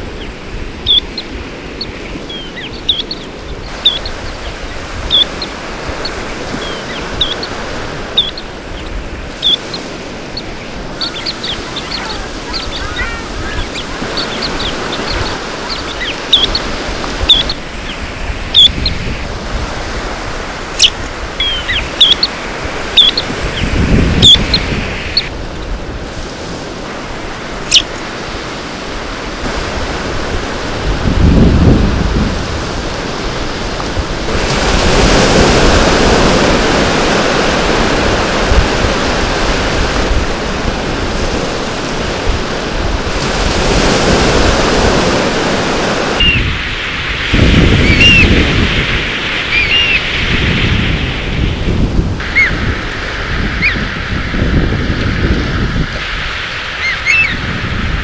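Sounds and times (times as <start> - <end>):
shorebirds chirping: 0.0 - 31.1, 32.0 - 54.7, 55.8 - 58.0
surf washing: 0.0 - 58.0.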